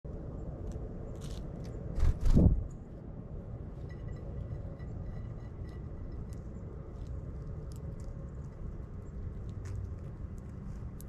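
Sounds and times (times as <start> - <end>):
low outdoor rumble: 0.1 - 11.0.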